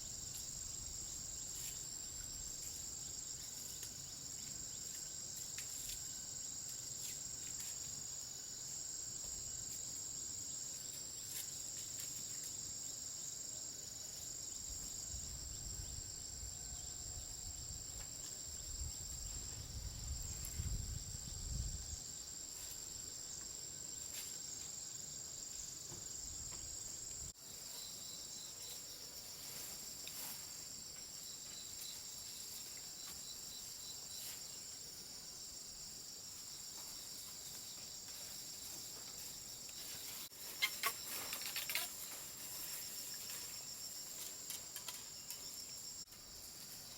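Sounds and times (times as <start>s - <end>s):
insect chorus trilling: 0.0s - 46.9s.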